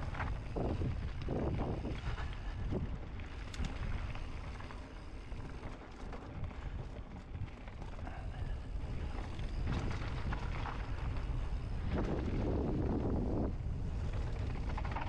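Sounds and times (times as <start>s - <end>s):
bike tyre noise on dirt: 0.0s - 15.0s
wind rumbling on microphone: 0.0s - 15.0s.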